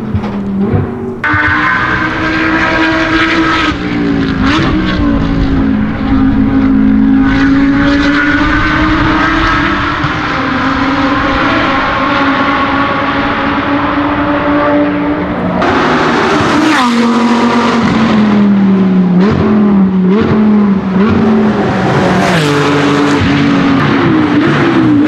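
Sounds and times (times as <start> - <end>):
race car engine at speed: 0.0 - 25.0.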